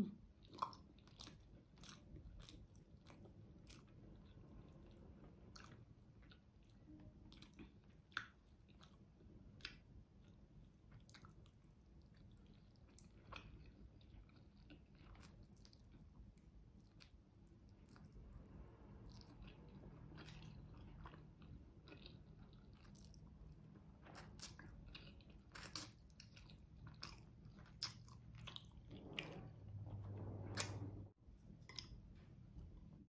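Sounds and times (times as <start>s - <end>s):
faint chewing with wet clicks: 0.2s - 33.0s.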